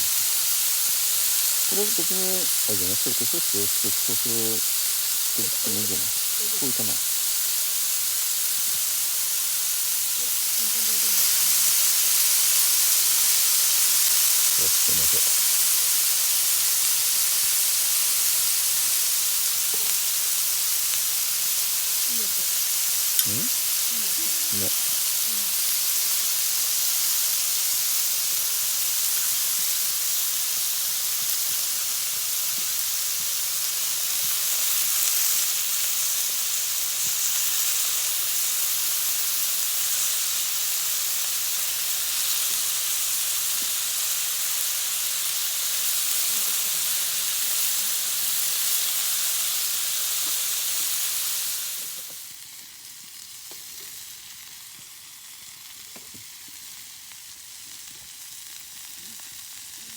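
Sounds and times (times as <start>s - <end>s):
food sizzling on griddle: 0.0s - 59.9s.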